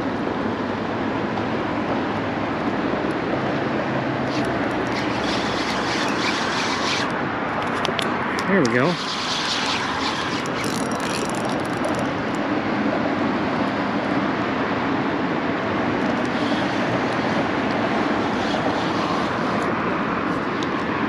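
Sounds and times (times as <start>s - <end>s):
traffic crossing a bridge: 0.0s - 21.0s.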